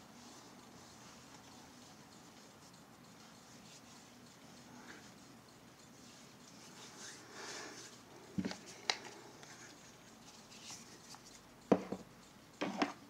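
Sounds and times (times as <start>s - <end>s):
soft rustling: 0.0s - 11.5s.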